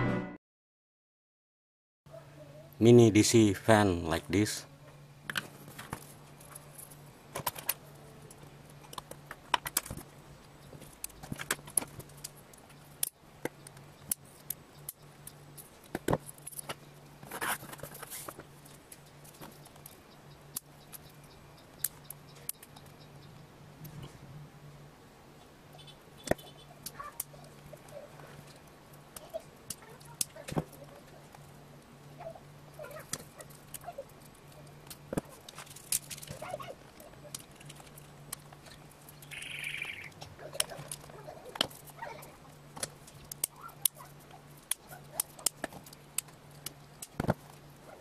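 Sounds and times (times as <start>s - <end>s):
low steady hum: 2.1s - 48.0s.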